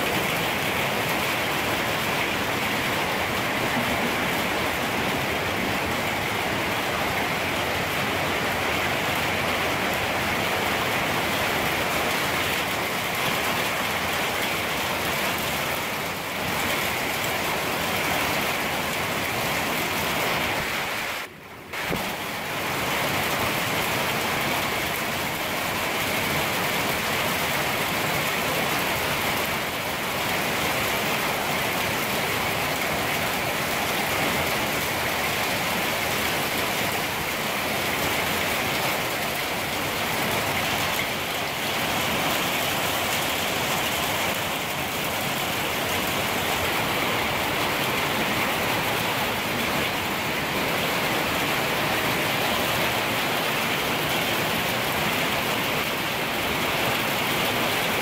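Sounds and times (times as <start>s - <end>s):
heavy rain on a rooftop: 0.0s - 58.0s.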